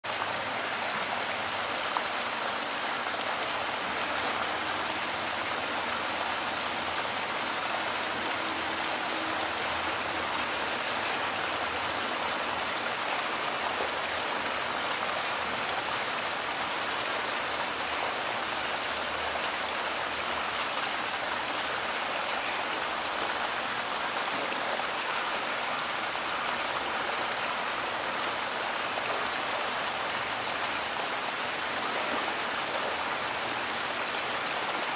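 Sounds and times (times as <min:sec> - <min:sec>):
water rushing: 0:00.0 - 0:34.9.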